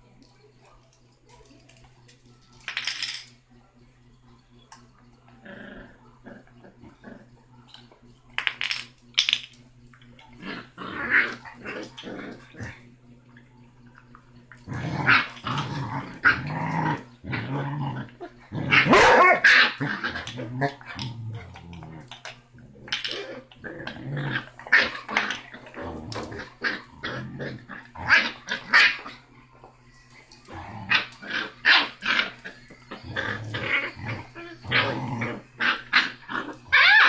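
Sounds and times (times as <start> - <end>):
puppy growling: 4.2 - 8.1, 10.0 - 37.0.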